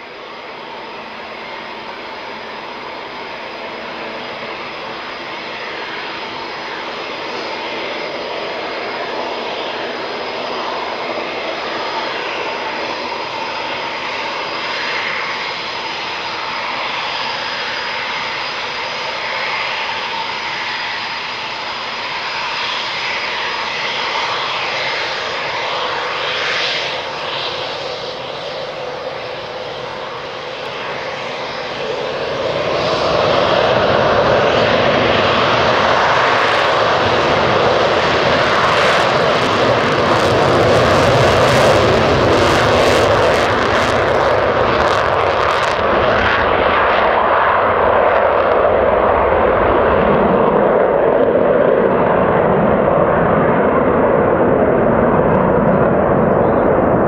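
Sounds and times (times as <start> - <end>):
jet engine roar with whine: 0.0 - 57.0.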